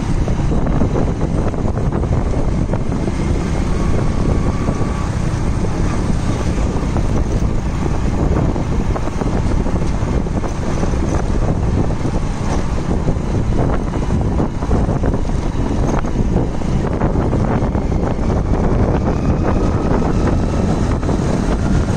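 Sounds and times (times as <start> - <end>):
engine and road rumble: 0.0 - 21.9
wind buffeting microphone: 0.0 - 21.9.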